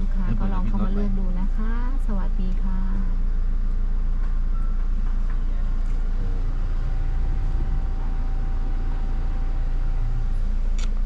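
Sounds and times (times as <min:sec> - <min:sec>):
car engine idling: 0:00.0 - 0:11.0
faint steady whine: 0:00.0 - 0:11.0.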